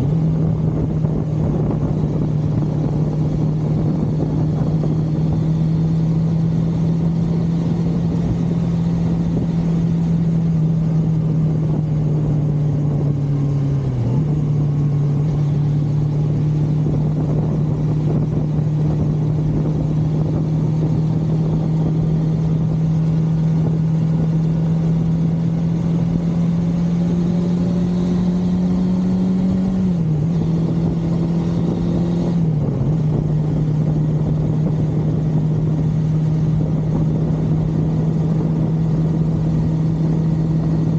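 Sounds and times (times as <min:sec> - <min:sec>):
motorcycle engine cruising: 0:00.0 - 0:40.9
wind rush: 0:00.0 - 0:40.9.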